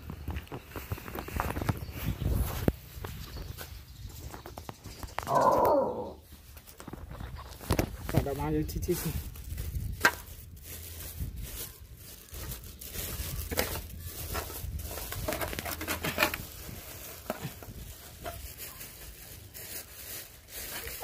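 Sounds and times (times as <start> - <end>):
irregular rustling and crackling: 0.0 - 21.0.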